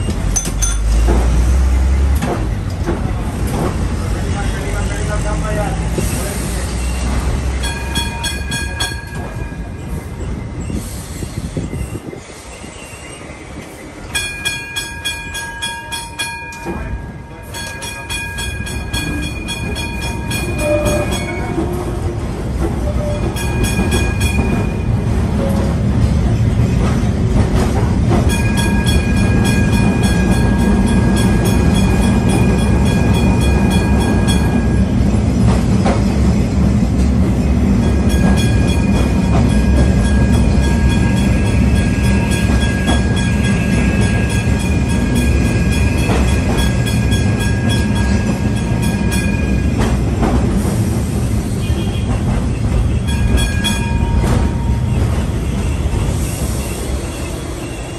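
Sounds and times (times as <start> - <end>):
tram wheels rumbling: 0.0 - 57.9.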